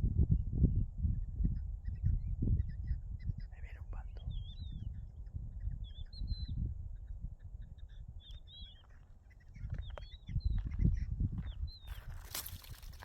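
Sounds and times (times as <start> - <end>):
partridges whistling calls: 1.8 - 12.5.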